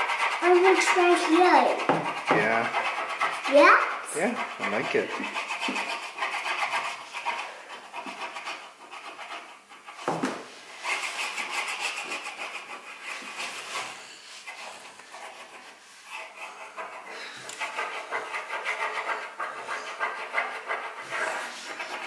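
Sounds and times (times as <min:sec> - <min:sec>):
crayon scribbling on paper: 0:00.0 - 0:22.0.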